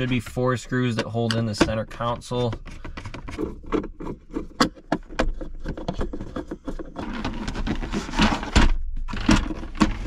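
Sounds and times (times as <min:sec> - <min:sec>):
plastic scraping: 0:00.0 - 0:10.0.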